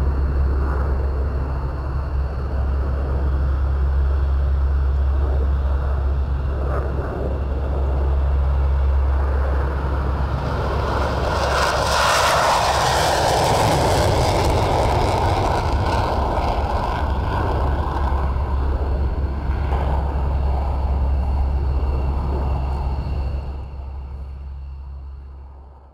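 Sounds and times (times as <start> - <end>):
aircraft engine rushing past: 0.0 - 25.9
deep engine rumble: 0.0 - 25.9.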